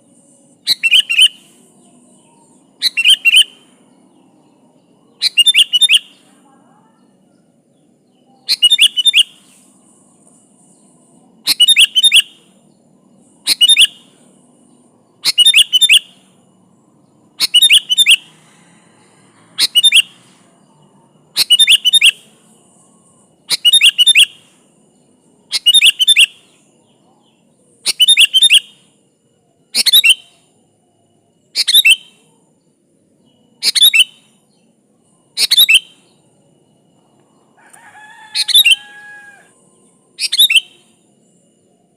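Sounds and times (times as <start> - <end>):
bulbul chirpy whistled song: 0.0 - 6.3, 7.9 - 16.4, 17.3 - 18.9, 19.5 - 30.7, 31.4 - 32.4, 33.2 - 37.4, 38.3 - 41.9.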